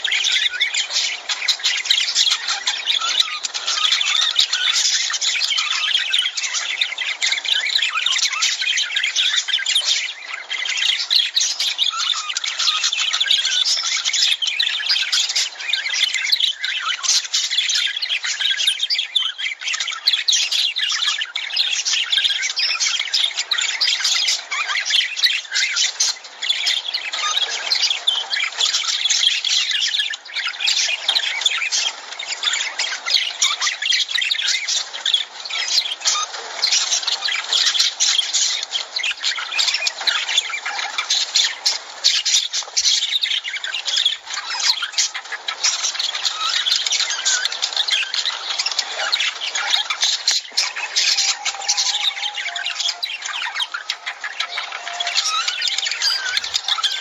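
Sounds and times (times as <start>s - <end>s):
lovebirds chattering: 0.0s - 57.0s.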